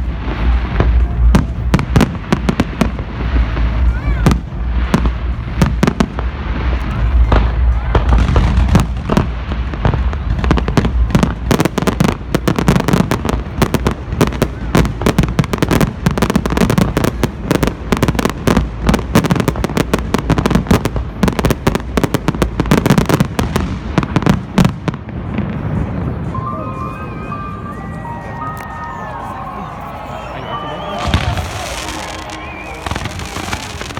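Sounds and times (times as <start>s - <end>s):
deep fireworks booms: 0.0s - 26.3s, 30.9s - 33.9s
fireworks crackling and banging: 0.0s - 26.9s, 30.0s - 33.9s.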